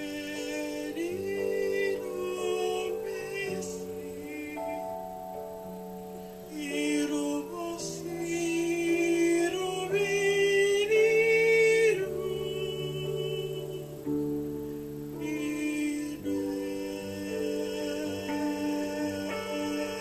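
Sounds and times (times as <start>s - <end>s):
wordless singing: 0.0s - 20.0s.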